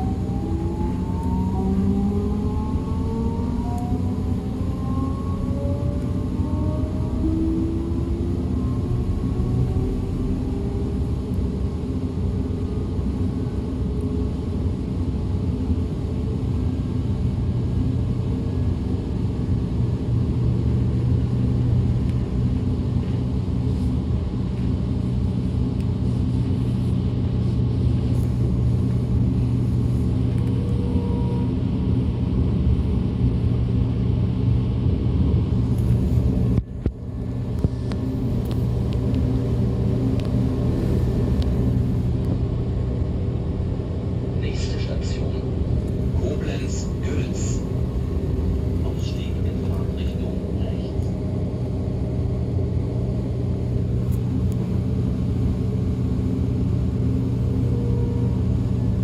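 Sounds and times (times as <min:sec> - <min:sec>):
faint traction motor whine: 0:00.0 - 0:59.0
train wheels rumbling: 0:00.0 - 0:59.0.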